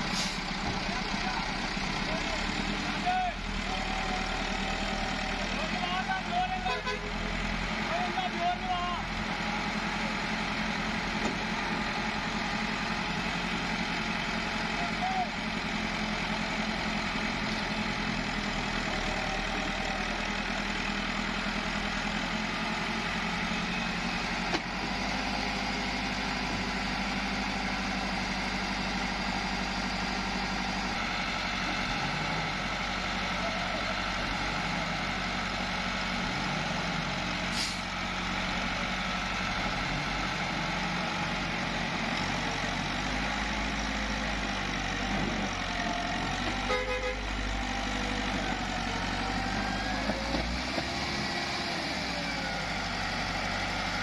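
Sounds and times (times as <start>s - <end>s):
tractor diesel engine straining: 0.0s - 54.0s.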